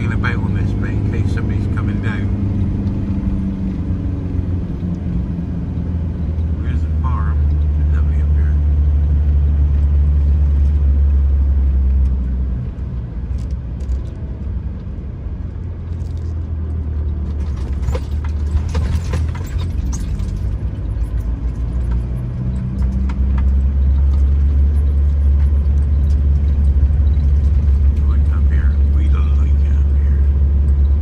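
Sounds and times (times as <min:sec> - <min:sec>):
engine and road drone: 0:00.0 - 0:31.0.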